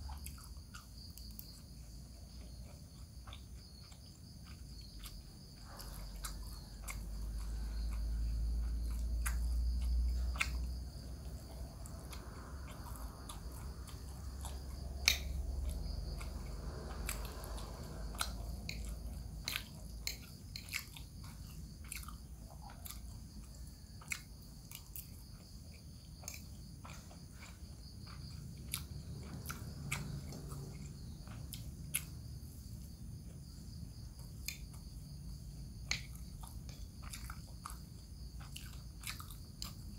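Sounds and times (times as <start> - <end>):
crickets chirping: 0.0 - 39.9
person chewing: 0.0 - 39.9.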